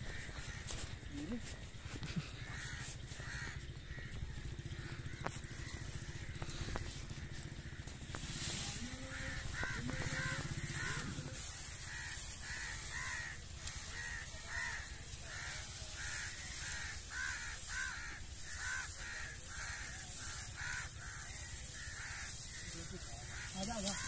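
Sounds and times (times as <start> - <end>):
crows cawing: 0.0 - 24.0.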